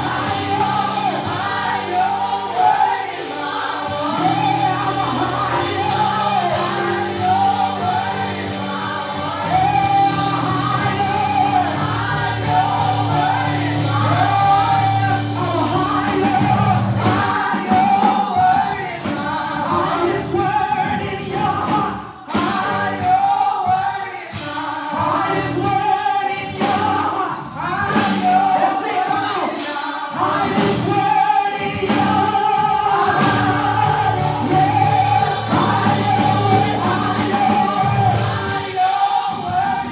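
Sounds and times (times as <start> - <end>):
band playing bass and drums: 0.0 - 23.8, 24.4 - 29.2, 30.2 - 39.9
choir singing: 0.0 - 39.9.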